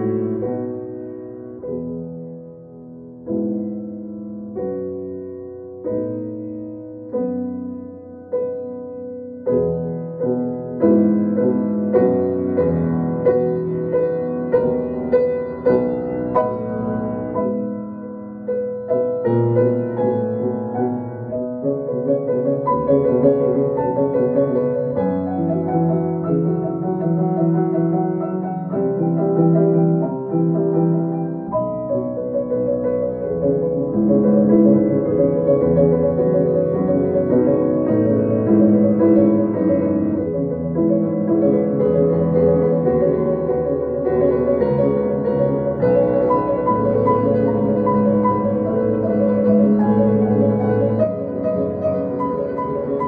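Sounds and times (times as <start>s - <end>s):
grand piano playing: 0.0s - 53.0s.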